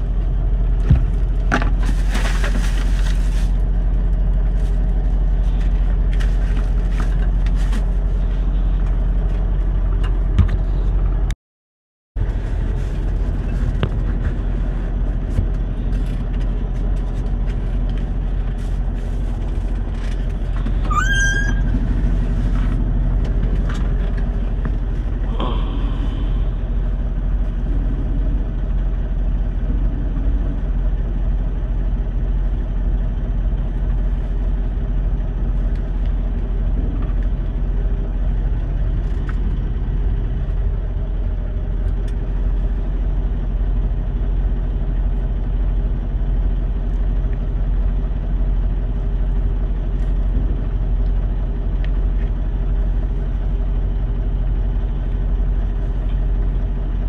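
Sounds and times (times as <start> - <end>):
diesel truck engine idling: 0.0 - 11.4, 12.2 - 57.0.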